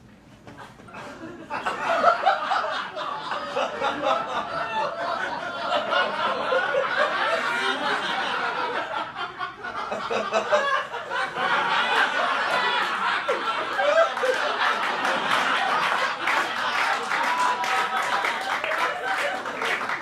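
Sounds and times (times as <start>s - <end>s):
audience laughing: 0.6s - 20.0s.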